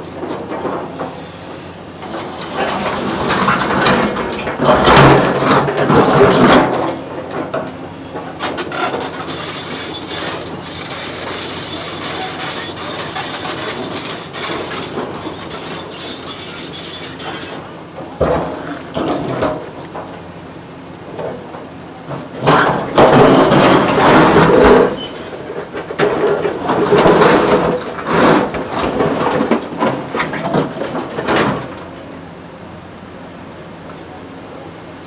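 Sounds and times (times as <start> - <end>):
steel clanking and scraping: 0.0 - 20.2, 21.1 - 31.9
excavator diesel engine running: 0.0 - 35.0.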